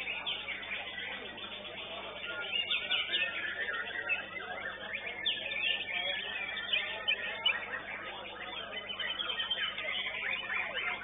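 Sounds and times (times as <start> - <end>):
birds whistling and chirping: 0.0 - 11.0.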